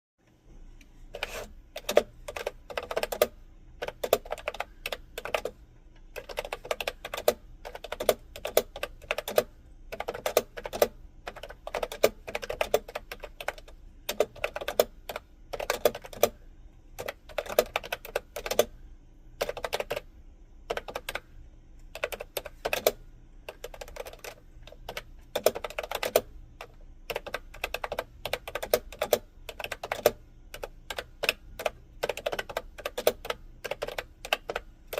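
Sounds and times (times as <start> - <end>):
typing on a keyboard: 1.2 - 16.4, 17.0 - 18.7, 19.4 - 20.1, 20.7 - 21.3, 21.9 - 34.9.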